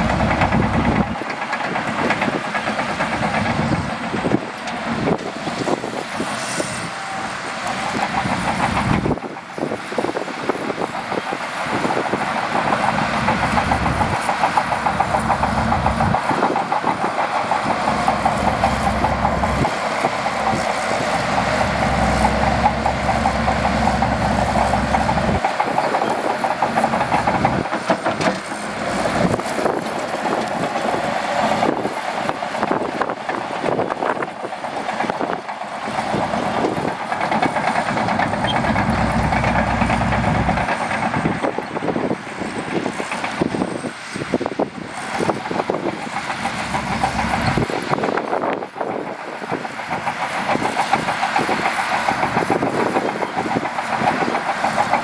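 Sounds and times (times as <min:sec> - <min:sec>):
bulldozer diesel engine rumbling: 0:00.0 - 0:55.0
steel tracks clattering: 0:00.0 - 0:55.0.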